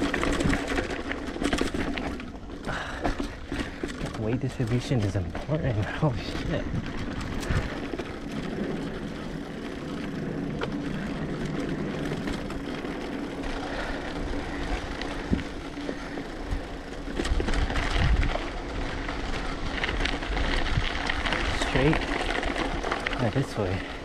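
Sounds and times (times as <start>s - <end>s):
bike rolling on dirt trail: 0.0s - 24.0s.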